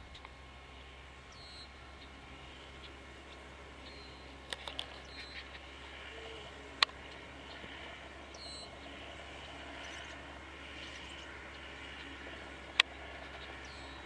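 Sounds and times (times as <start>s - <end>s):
distant tractor and mower running: 0.0s - 14.0s.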